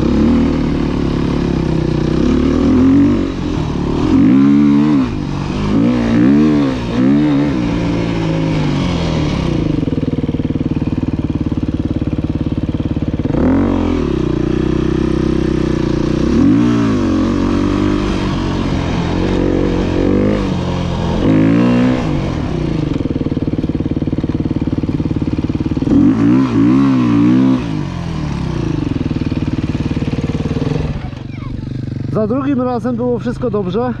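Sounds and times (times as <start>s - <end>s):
dirt bike engine revving: 0.0s - 33.5s.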